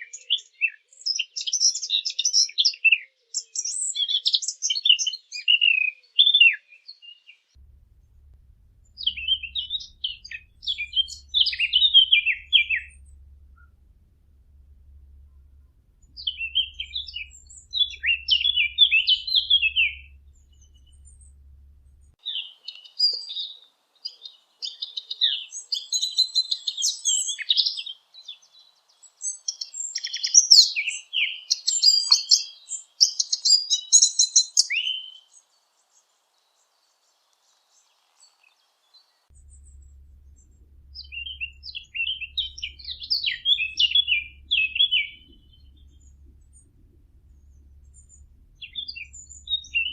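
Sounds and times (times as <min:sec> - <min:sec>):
warbler singing: 0:00.0 - 0:49.9.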